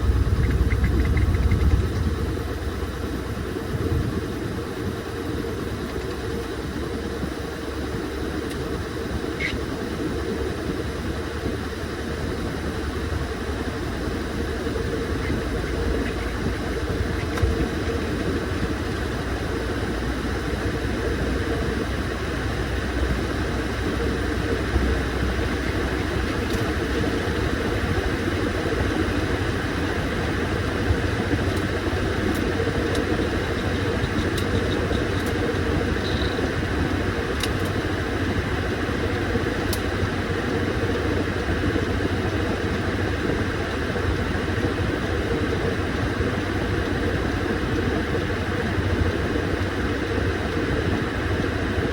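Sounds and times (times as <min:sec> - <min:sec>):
washing machine running: 0:00.0 - 0:51.9.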